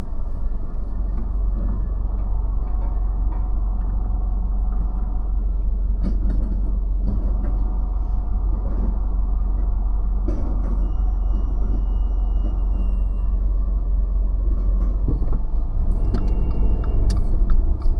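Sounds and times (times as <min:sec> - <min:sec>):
car engine and road noise: 0:00.0 - 0:17.9.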